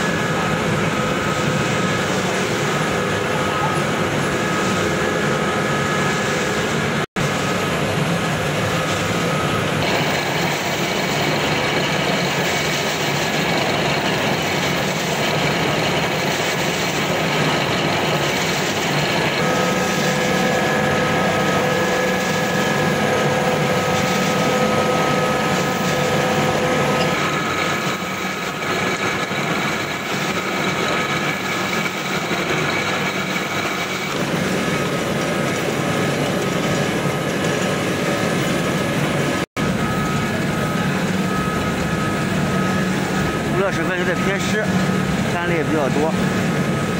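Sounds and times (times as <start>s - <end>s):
machine whining tones: 0.0s - 46.9s
pellet mills mechanical din: 0.0s - 46.9s.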